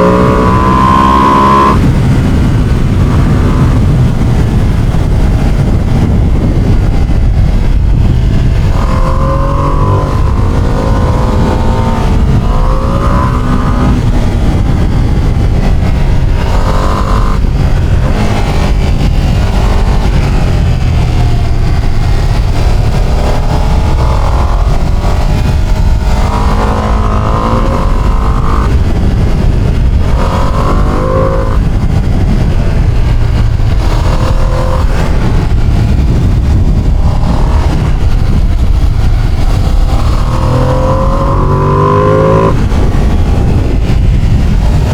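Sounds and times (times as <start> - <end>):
motorcycle exhaust revving: 0.0 - 44.9.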